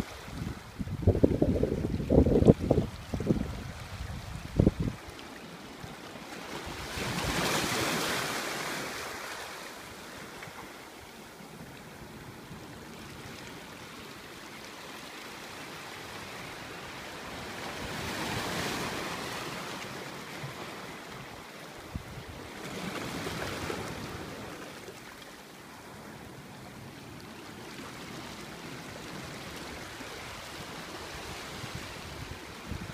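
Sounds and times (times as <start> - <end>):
small waves washing ashore: 0.0 - 32.9
surf hiss: 0.0 - 32.9.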